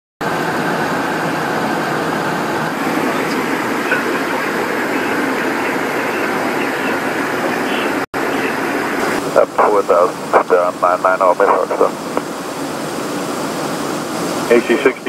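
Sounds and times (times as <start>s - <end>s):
jet cockpit airflow and engine noise: 0.2s - 15.0s.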